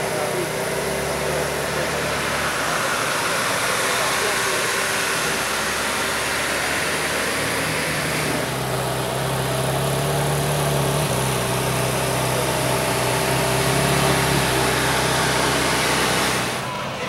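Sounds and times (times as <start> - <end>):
car engine at low revs: 0.0 - 16.8.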